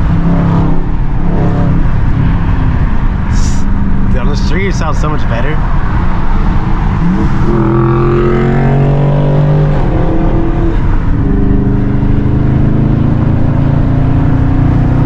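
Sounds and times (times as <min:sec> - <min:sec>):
car exhaust accelerating: 0:00.0 - 0:15.0.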